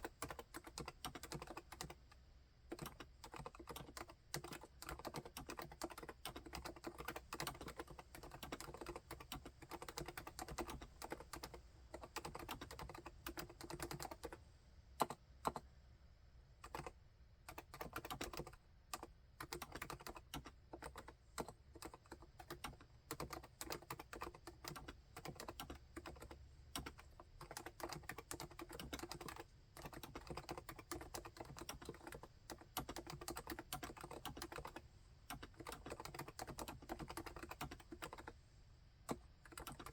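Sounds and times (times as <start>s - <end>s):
quiet keyboard typing: 0.0s - 15.7s, 16.5s - 39.9s.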